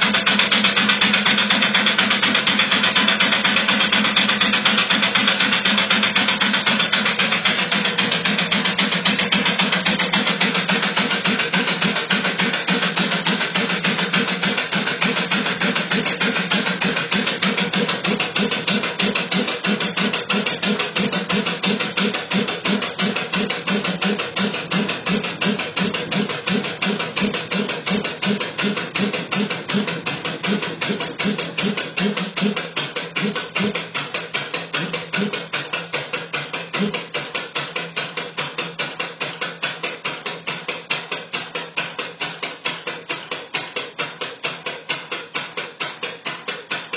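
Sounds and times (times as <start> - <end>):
small engine knocking: 0.0 - 46.9.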